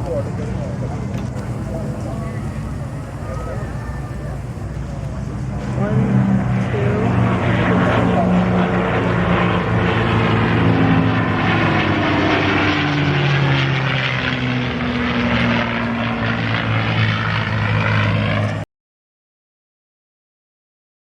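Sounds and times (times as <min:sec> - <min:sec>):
propeller aircraft engine flying past: 0:00.0 - 0:18.7.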